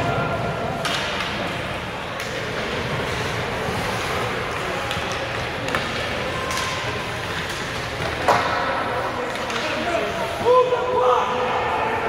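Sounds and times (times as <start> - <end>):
hockey stick hitting puck: 0.2 - 10.5
skates on ice: 0.2 - 10.7.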